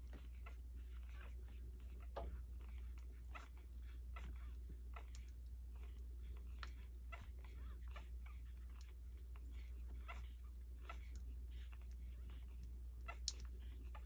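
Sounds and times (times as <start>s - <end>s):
puppies squeaking: 0.0s - 14.0s
puppies suckling: 0.0s - 14.0s
steady low hum: 0.0s - 14.0s.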